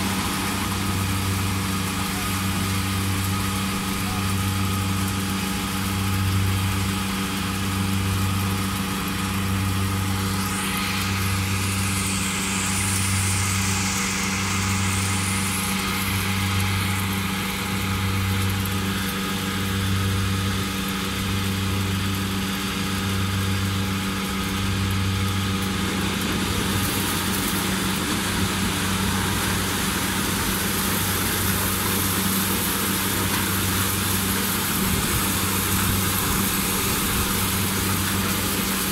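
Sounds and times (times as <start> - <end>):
harvester engine throbbing: 0.0 - 38.9.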